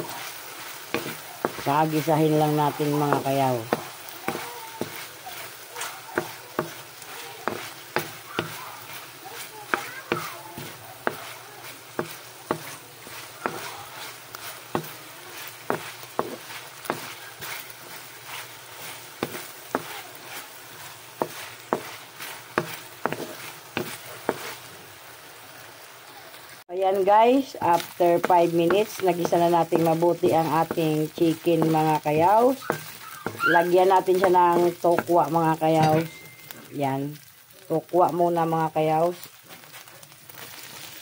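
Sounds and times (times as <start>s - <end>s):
spatula knocking and scraping pan: 0.0s - 24.6s, 27.4s - 36.7s
chicken sizzling in a wok: 0.0s - 41.0s.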